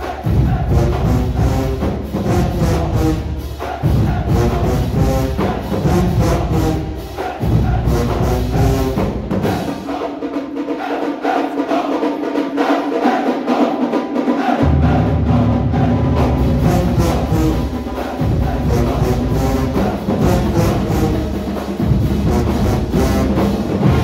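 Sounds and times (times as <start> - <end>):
brass chords: 0.0 - 10.1, 14.4 - 24.0
marching percussion: 0.0 - 24.0.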